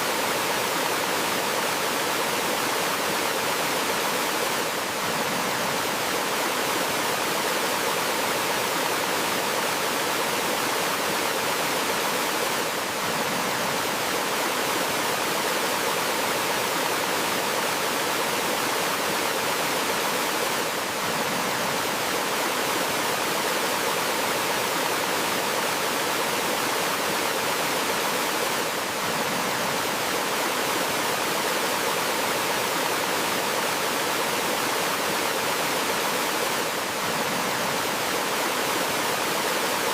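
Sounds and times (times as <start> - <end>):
waterfall splashing and rushing: 0.0 - 39.9.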